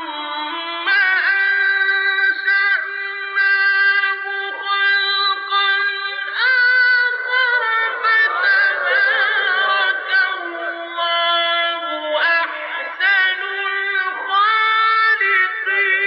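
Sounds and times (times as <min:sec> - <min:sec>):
man chanting melodic recitation: 0:00.0 - 0:16.0.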